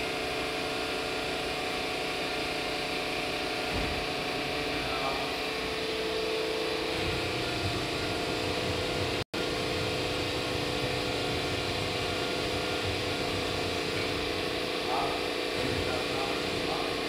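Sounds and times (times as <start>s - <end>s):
industrial machinery hum: 0.0s - 17.0s.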